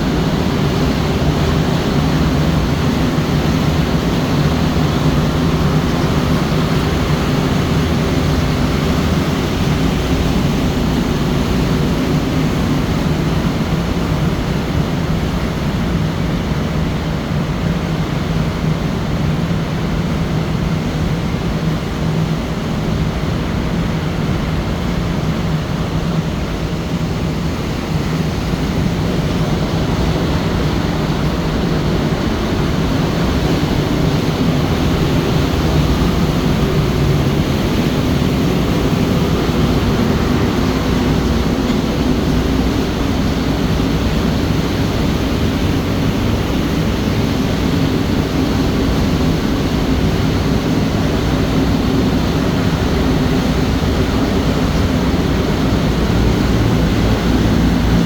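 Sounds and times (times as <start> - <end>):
constant rushing noise: 0.0 - 58.0
ship engine droning: 0.0 - 58.0.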